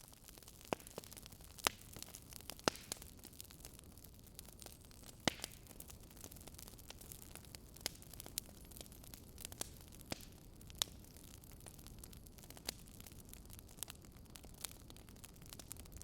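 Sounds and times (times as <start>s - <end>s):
low hiss of fire: 0.0s - 16.0s
wood logs crackling: 0.0s - 16.0s.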